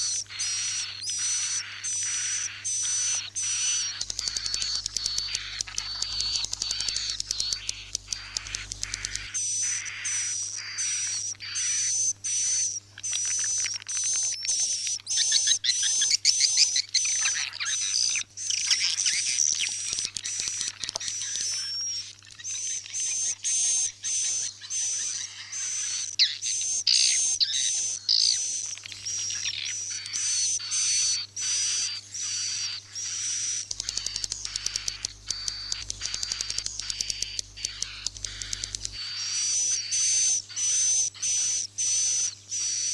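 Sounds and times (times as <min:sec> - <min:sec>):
swiftlet chirps and twitters: 0:00.0 - 0:42.9.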